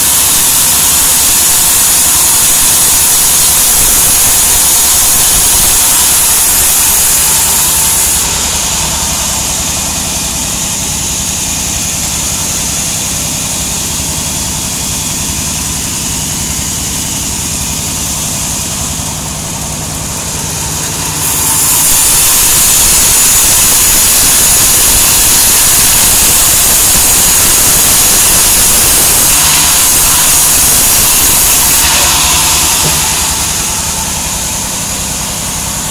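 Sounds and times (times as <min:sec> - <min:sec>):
motor hum: 0:00.0 - 0:35.9
saw blade hissing in wood: 0:00.0 - 0:35.9.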